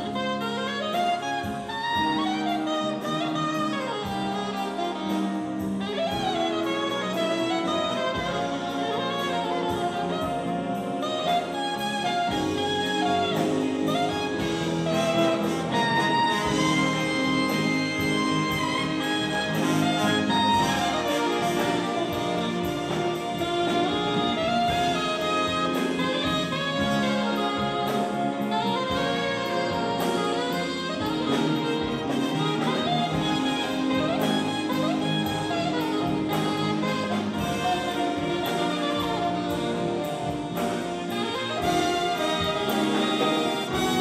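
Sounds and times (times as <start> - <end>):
alto saxophone: 0.0 - 44.0
big band playing jazz: 0.0 - 44.0.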